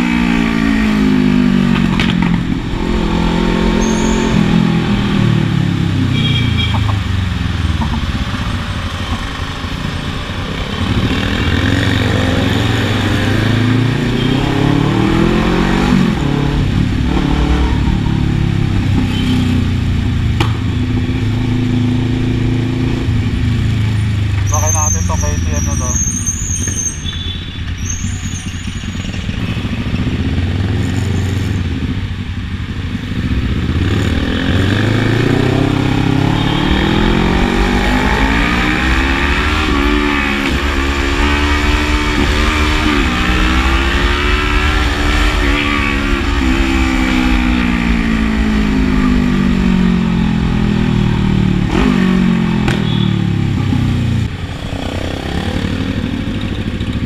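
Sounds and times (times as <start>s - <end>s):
motorcycle engine accelerating: 0.0s - 25.8s, 27.4s - 57.0s.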